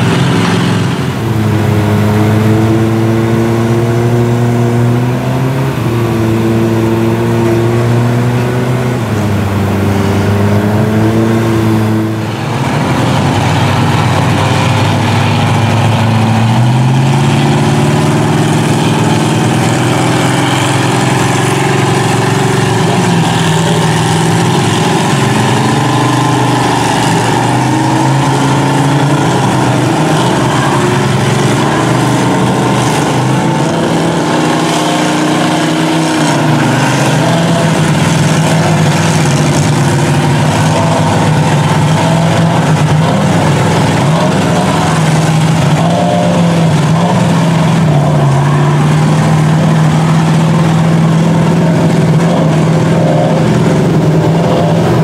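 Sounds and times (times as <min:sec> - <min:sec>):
truck engines revving under load: 0:00.0 - 0:55.0.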